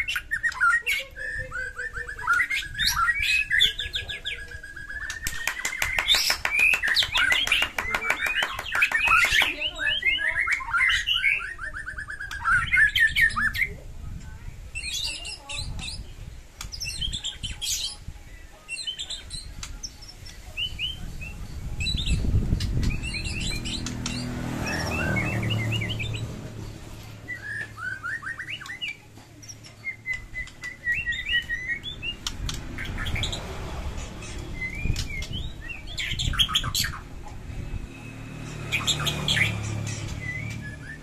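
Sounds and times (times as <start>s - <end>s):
songbird singing whistled phrases: 0.0s - 13.8s, 18.7s - 26.4s, 27.2s - 33.4s, 34.2s - 37.1s, 37.7s - 41.0s.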